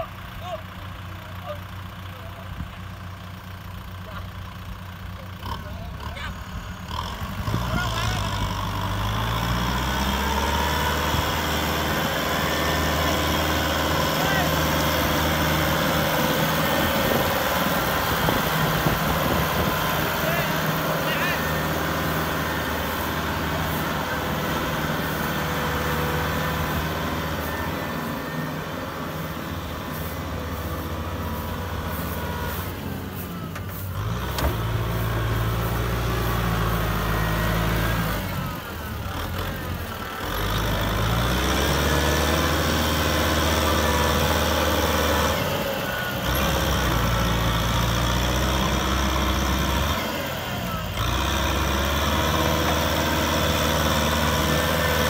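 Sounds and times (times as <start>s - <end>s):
tractor diesel engine labouring: 0.0s - 55.0s.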